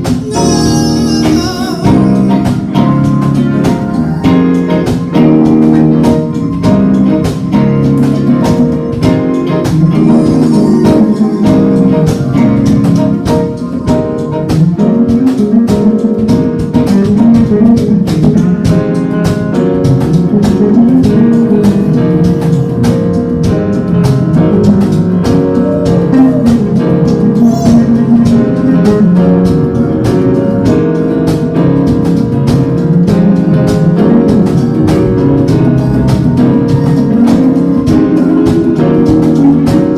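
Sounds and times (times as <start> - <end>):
guitar: 0.0 - 39.9
steady drum beat: 0.0 - 39.9.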